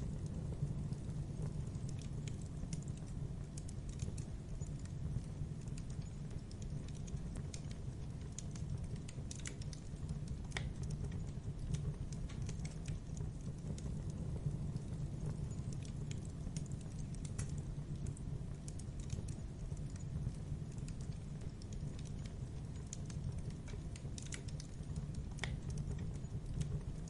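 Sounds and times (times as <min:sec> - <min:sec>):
burning wood crackling and popping: 0:00.0 - 0:27.0
campfire flames rumbling: 0:00.0 - 0:27.0.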